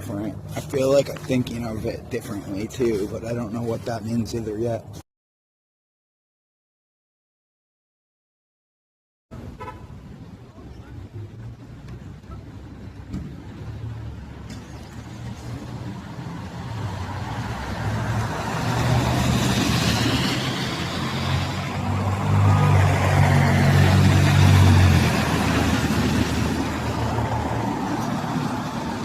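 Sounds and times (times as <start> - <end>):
road noise: 0.0 - 5.0, 9.3 - 29.0
vehicle engine: 0.0 - 5.0, 9.3 - 29.0.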